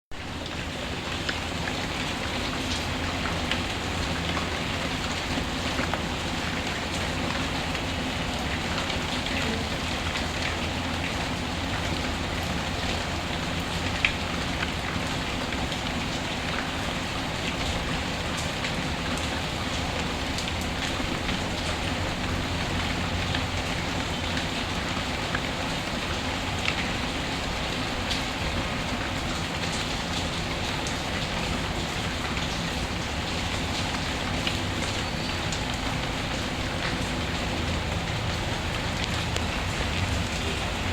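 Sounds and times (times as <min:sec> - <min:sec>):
steady rain falling: 0:00.1 - 0:40.9.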